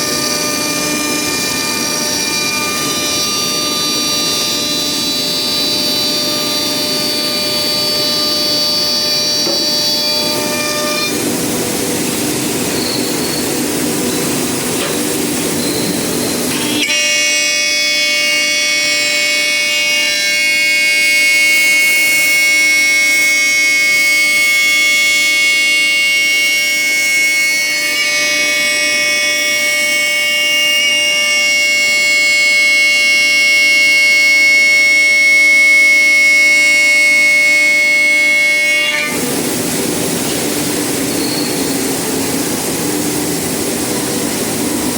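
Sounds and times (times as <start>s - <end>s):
router spindle whine: 0.0s - 44.9s
wood cutting noise: 0.0s - 44.9s.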